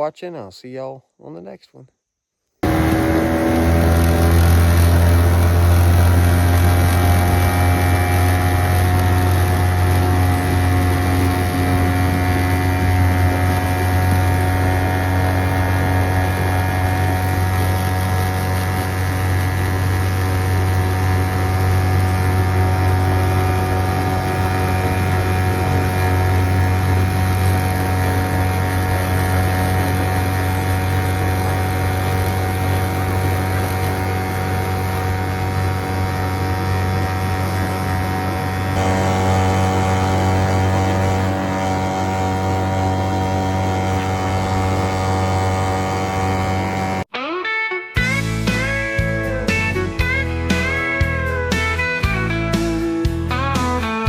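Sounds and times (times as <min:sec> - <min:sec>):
boat motor running: 0:02.6 - 0:47.1.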